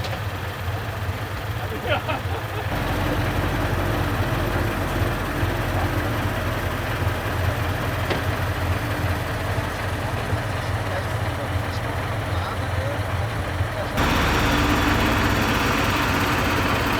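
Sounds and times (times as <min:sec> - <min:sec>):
truck diesel engine humming: 0:00.0 - 0:16.9.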